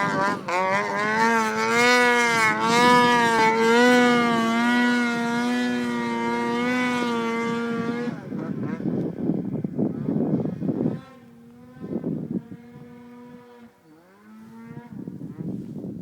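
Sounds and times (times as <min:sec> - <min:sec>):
snowmobile engine at high revs: 0:00.0 - 0:16.0.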